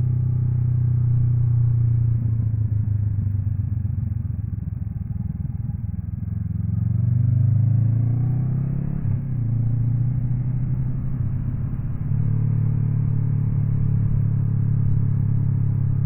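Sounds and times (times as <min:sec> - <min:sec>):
motorcycle engine while riding: 0:00.0 - 0:16.0.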